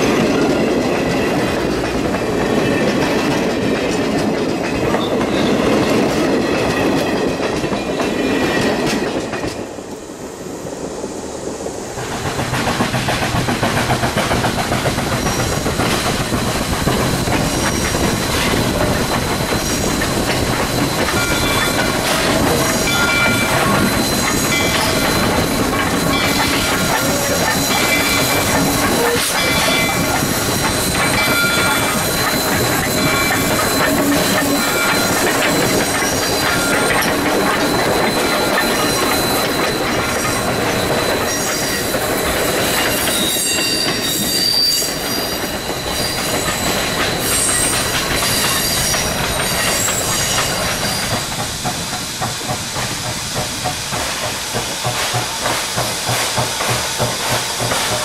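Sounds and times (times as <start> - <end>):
train wheels clattering over rail joints: 0.0 - 10.0, 11.8 - 58.0
steam locomotive hauling coaches: 0.0 - 58.0.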